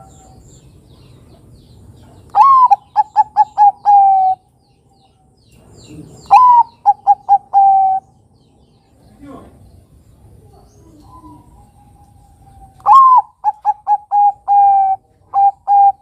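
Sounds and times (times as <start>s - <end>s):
dove cooing song: 0.0s - 8.3s, 10.3s - 16.0s.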